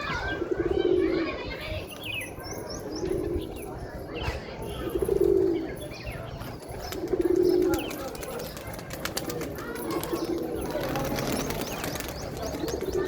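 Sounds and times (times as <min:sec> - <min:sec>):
pigeons cooing: 0:00.0 - 0:01.6, 0:02.7 - 0:13.0
small birds chirping: 0:00.0 - 0:13.0.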